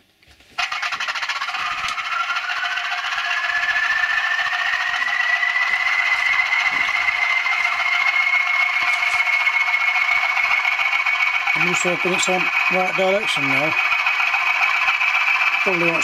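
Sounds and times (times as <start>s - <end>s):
diesel locomotive engine starting: 0.6s - 16.0s
engine whine rising in pitch: 0.6s - 16.0s.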